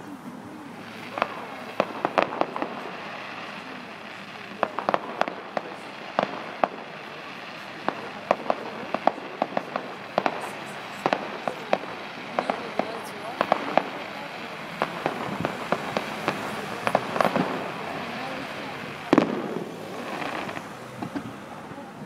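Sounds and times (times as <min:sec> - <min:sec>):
fireworks bursting with bangs: 0:00.0 - 0:22.0
crackling pops: 0:01.0 - 0:21.4.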